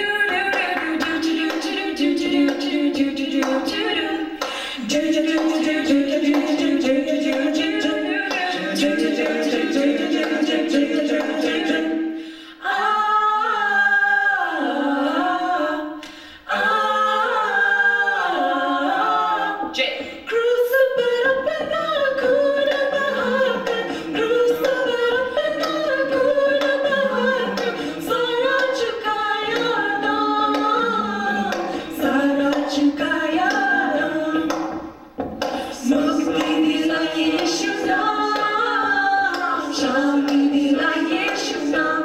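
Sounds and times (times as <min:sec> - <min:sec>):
a cappella group singing in harmony: 0:00.0 - 0:42.0.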